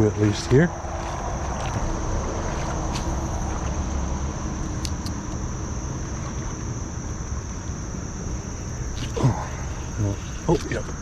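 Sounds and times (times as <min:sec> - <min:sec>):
insects droning: 0:00.0 - 0:11.0
low outdoor rumble: 0:00.0 - 0:11.0.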